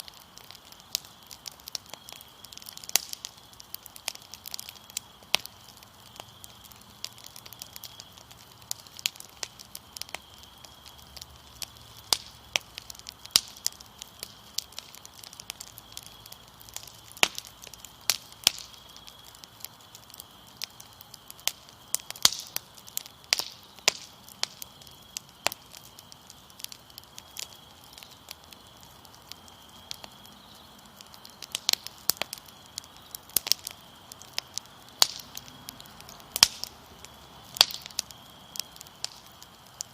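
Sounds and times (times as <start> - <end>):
crickets trilling: 0.0 - 39.9
fire crackling and popping: 0.0 - 39.9.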